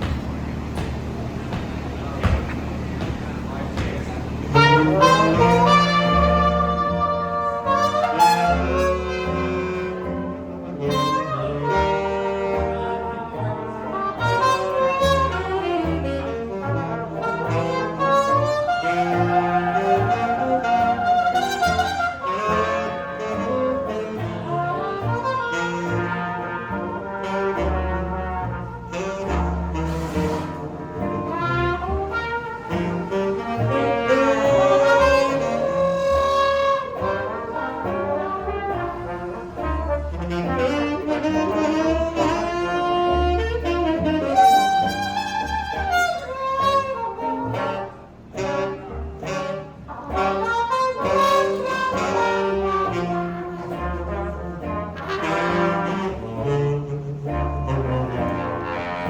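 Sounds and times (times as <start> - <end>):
live jazz band playing: 0.0 - 59.0.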